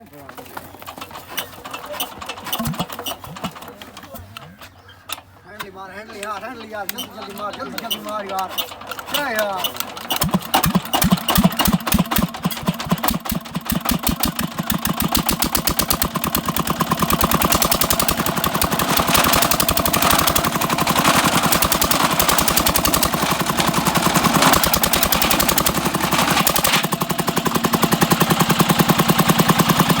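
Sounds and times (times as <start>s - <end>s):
engine running: 0.8s - 5.3s, 6.3s - 30.0s.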